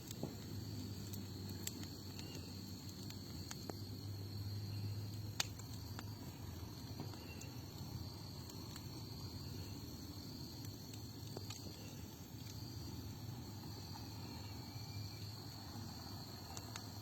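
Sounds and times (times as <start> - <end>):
fire crackling and popping: 0.0 - 17.0
flames rumbling: 0.0 - 17.0
insects chirring: 0.0 - 17.0.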